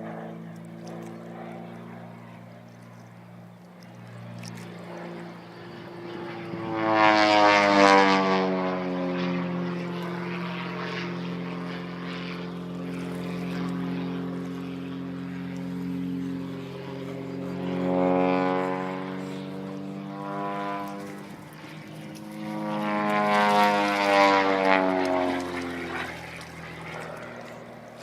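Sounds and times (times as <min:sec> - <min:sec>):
propeller aircraft passing overhead: 0:00.0 - 0:28.0.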